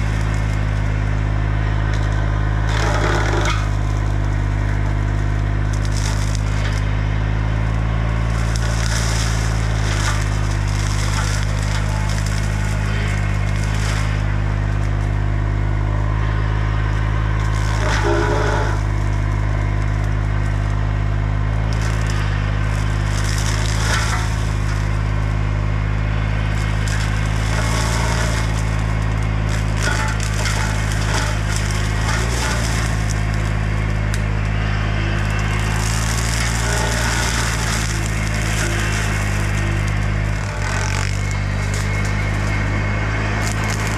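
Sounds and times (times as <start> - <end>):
diesel engine running: 0.0 - 43.9
mower head crackling through brush: 0.0 - 43.9.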